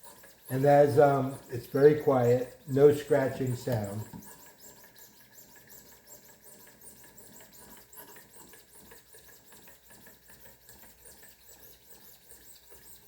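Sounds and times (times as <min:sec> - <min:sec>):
whetstone strokes on knife: 0:00.0 - 0:13.0.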